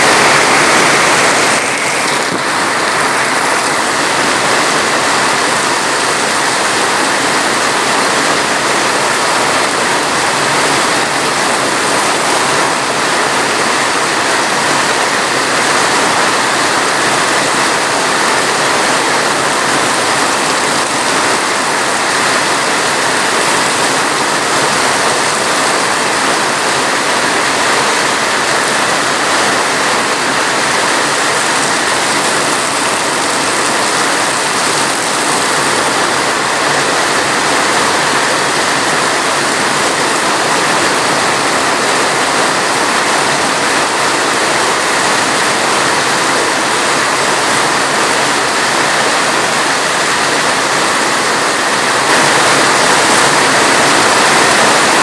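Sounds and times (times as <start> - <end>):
steady dense rain: 0.0 - 55.0.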